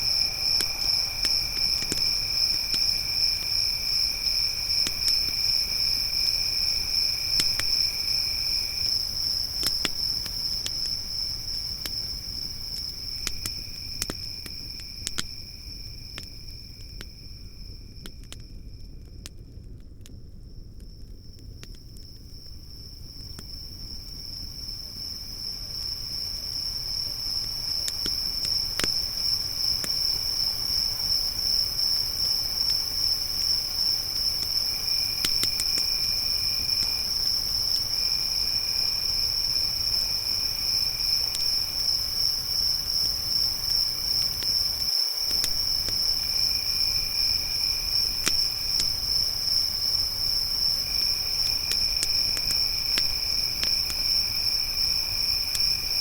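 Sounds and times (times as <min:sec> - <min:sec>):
campfire crackles: 0:00.0 - 0:56.0
crickets chirping: 0:00.0 - 0:56.0
lower insect call: 0:00.0 - 0:56.0.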